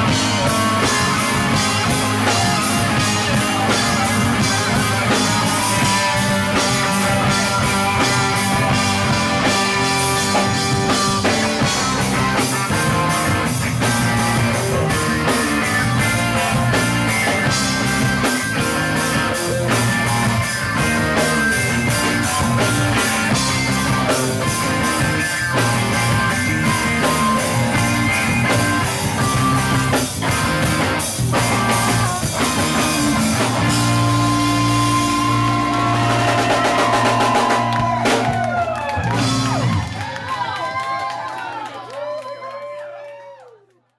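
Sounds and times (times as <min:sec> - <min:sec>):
drum kit: 0:00.0 - 0:40.2
electric guitars: 0:00.0 - 0:40.5.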